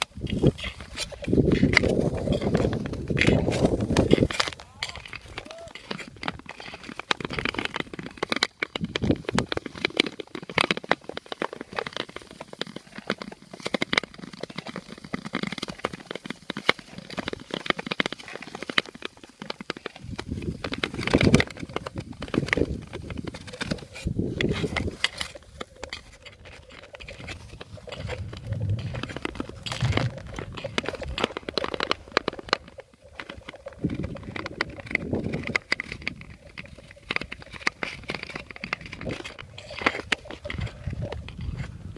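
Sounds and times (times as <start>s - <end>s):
skates gliding on ice: 0.0s - 41.9s.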